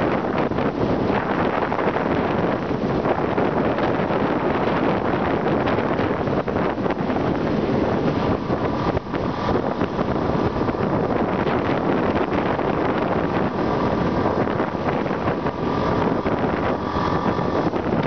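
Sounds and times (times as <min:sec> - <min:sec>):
road noise: 0:00.0 - 0:18.0
wind rushing over microphone: 0:00.0 - 0:18.0
motorcycle engine: 0:00.4 - 0:18.0.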